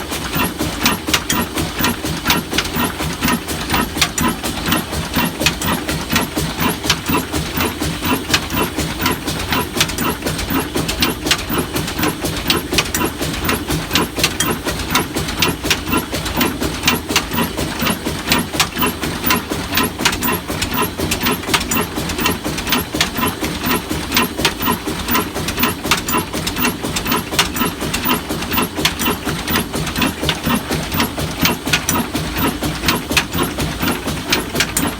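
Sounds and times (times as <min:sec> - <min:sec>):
diesel engine running: 0:00.0 - 0:34.9
exhaust knocking: 0:00.0 - 0:34.9.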